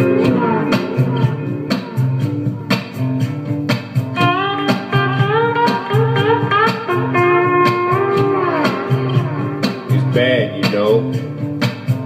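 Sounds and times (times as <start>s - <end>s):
sliding guitar notes over a beat: 0.0s - 12.0s.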